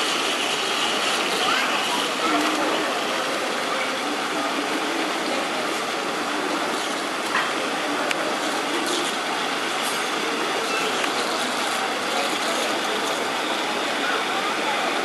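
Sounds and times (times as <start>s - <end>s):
water jet splashing into pool: 0.0s - 14.0s.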